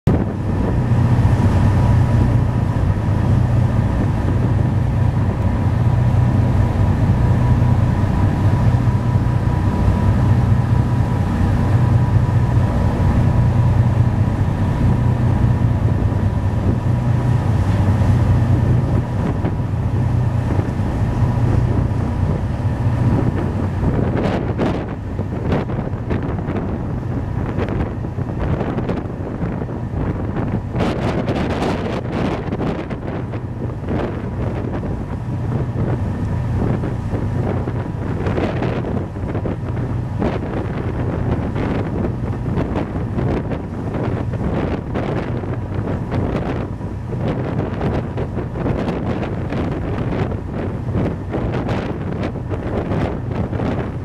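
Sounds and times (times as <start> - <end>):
churning wake rushing: 0.0 - 54.0
diesel engines droning: 0.1 - 54.0
wind buffeting microphone: 0.1 - 54.0.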